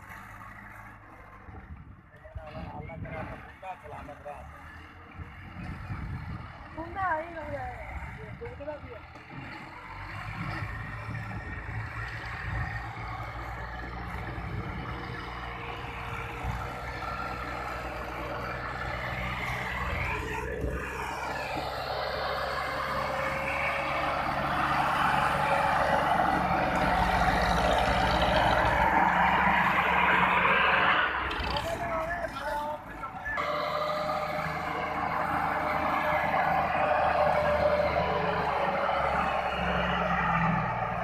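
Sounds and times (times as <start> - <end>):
tractor engine under load: 0.0 - 41.0.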